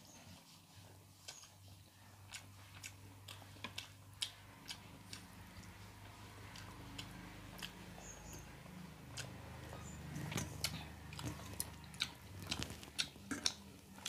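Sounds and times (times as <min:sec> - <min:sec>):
low steady hum: 0:00.0 - 0:14.0
chewing food: 0:00.2 - 0:14.0.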